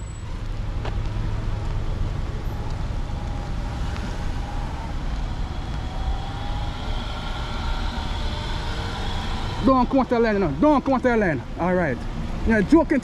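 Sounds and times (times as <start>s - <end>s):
traffic engines rumbling: 0.0s - 13.0s.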